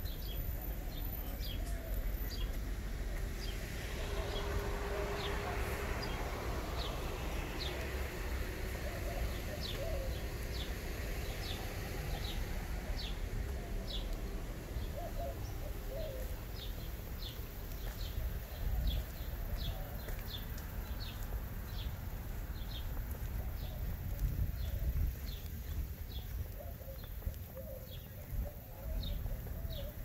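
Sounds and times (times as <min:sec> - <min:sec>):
steady low rumble: 0:00.0 - 0:30.0
bird chirping: 0:03.3 - 0:30.0.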